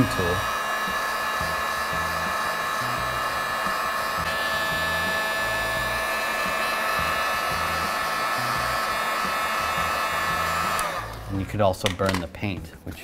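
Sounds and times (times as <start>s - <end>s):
heat gun whining and hissing: 0.0s - 11.6s.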